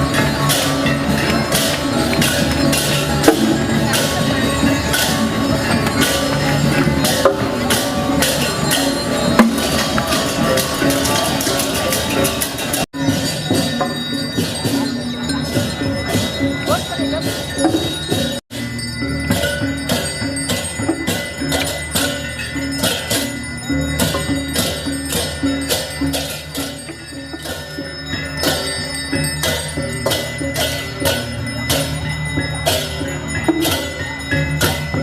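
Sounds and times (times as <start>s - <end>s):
gamelan music: 0.0s - 35.0s.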